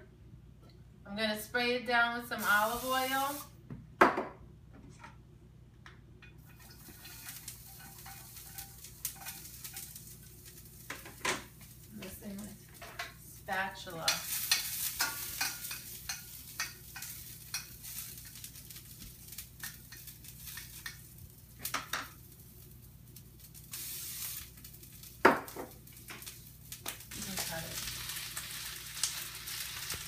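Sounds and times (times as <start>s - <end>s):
garlic sizzling in oil: 2.4s - 3.5s, 6.4s - 30.0s.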